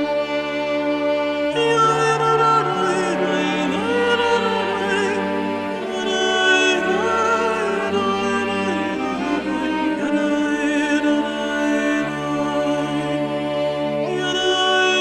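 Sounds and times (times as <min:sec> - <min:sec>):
bowed strings: 0:00.0 - 0:15.0
wavering singing voice: 0:00.0 - 0:15.0.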